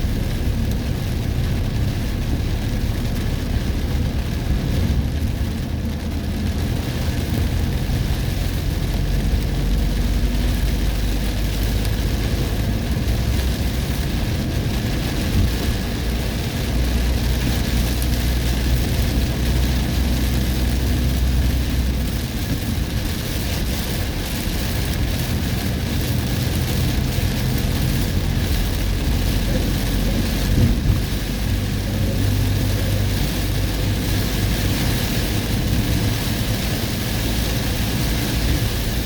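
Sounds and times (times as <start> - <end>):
rain hissing on vehicle: 0.0 - 39.0
vehicle road rumble: 0.0 - 39.0.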